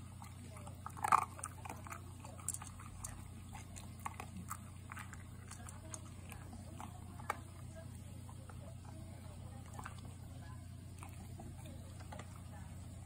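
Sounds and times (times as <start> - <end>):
dog crunching food from bowl: 0.0 - 13.0.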